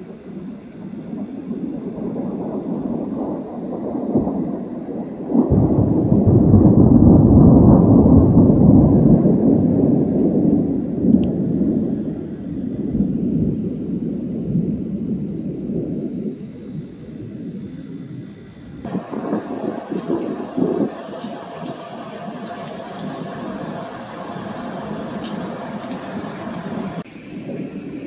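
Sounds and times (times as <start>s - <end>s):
deep rolling thunder: 0.0s - 28.0s.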